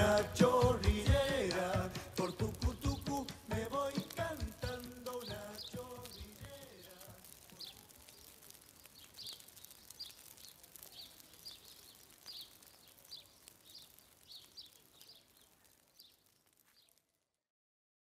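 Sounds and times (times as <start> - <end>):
light background hiss: 0.0 - 16.8
faint bird chirping: 2.2 - 17.0.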